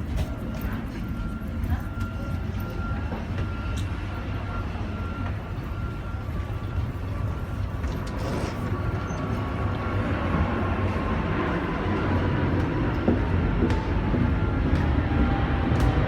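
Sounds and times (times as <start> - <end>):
faint steady whining tones: 0.0 - 16.0
vehicle rumble from inside: 0.0 - 16.0.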